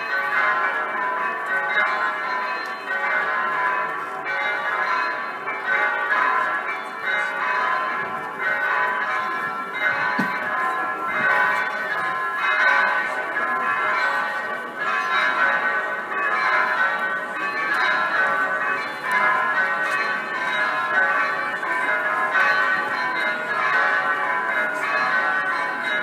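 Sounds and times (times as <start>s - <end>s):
electronic church bells ringing: 0.0s - 26.0s.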